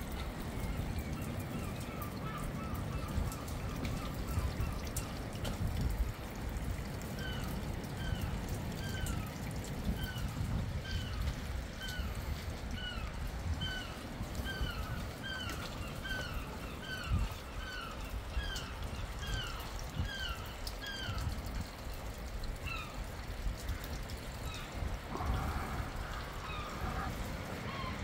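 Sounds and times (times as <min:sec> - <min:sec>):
water trickling and dripping: 0:00.0 - 0:28.0.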